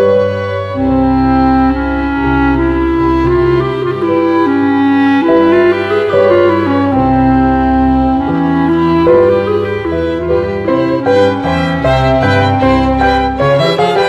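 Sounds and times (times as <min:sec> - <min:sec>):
low bowed strings: 0:00.0 - 0:14.0
violin melody: 0:00.0 - 0:14.0.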